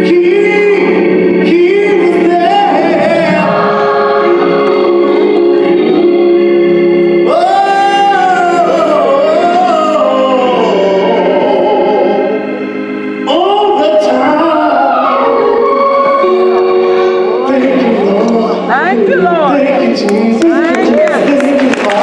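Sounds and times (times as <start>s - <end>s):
man singing gospel: 0.0s - 22.0s
organ chords: 0.0s - 22.0s.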